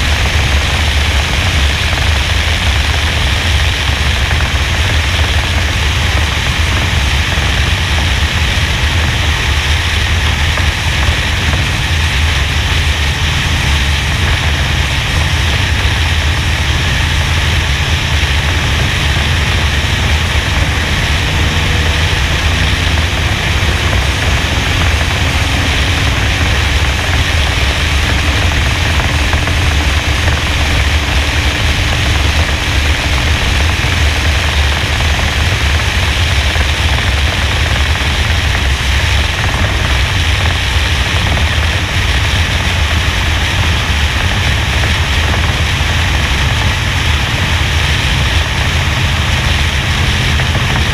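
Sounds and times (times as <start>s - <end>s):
car engine droning: 0.0s - 50.9s
wind rushing over camera: 0.0s - 50.9s.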